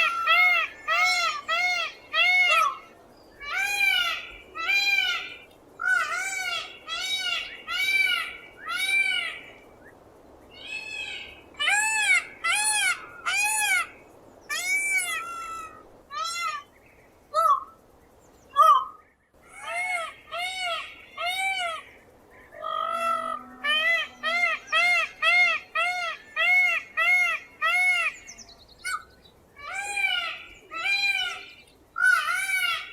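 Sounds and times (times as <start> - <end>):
peacock calling: 0.0 - 9.6, 10.5 - 16.7, 17.3 - 17.8, 18.5 - 32.9.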